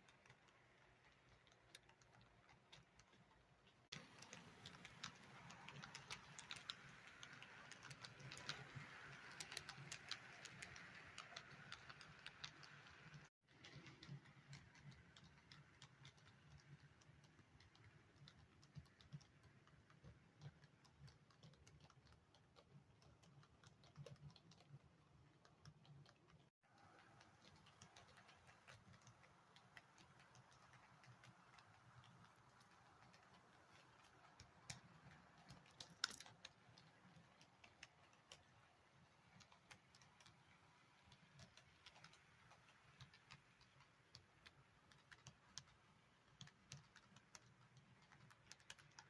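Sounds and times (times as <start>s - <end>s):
model train wheels clicking: 0.0s - 49.0s.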